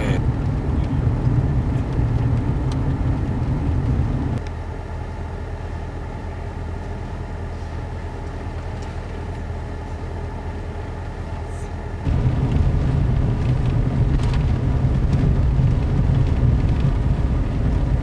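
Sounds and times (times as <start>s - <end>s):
car rumbling in motion: 0.0s - 18.0s.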